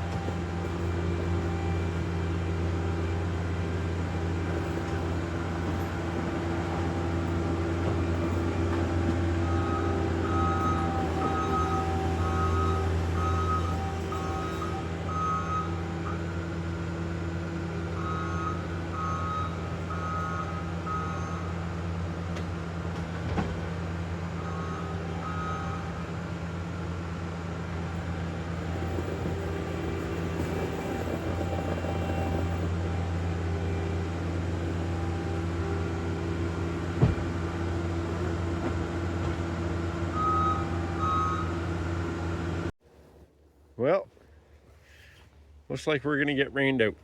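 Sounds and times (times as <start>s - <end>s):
diesel engine running: 0.0s - 42.7s.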